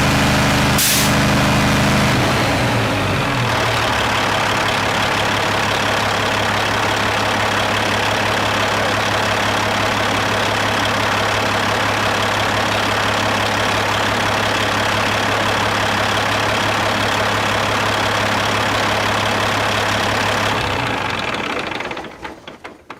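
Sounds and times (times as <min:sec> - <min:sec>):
diesel engine idling: 0:00.0 - 0:22.6.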